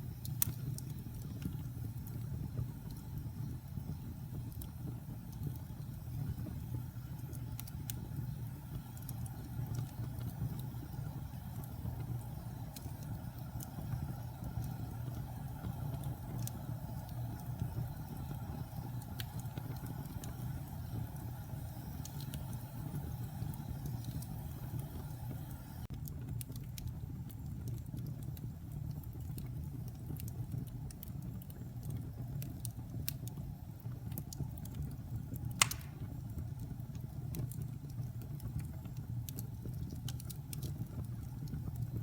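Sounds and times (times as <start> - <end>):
fire flames rumbling: 0.0 - 42.0
logs crackling and popping: 0.0 - 42.0.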